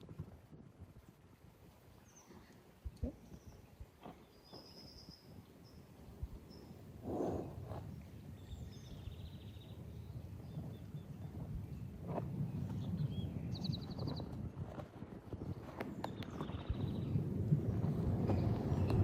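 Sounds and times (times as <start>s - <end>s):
small birds chirping: 1.9s - 14.4s, 15.4s - 19.0s.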